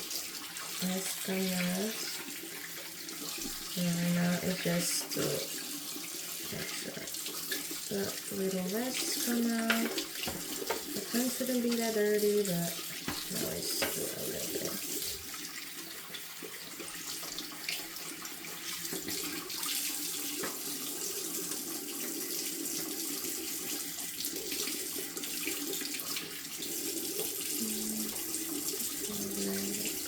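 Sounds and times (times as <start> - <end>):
tap water splashing into sink: 0.0 - 30.0.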